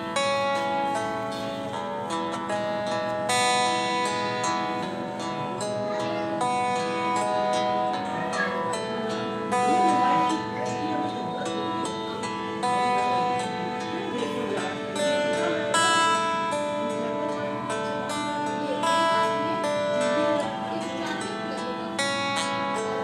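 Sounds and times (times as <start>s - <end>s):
slow instrumental music: 0.0s - 23.0s.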